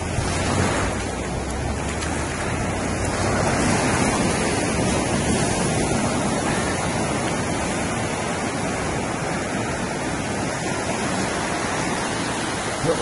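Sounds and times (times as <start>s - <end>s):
surf rushing on beach: 0.0s - 13.0s.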